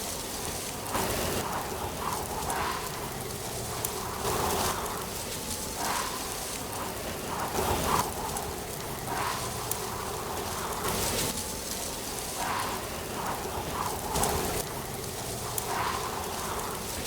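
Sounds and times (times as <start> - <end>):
wind gusting through trees: 0.0 - 17.0.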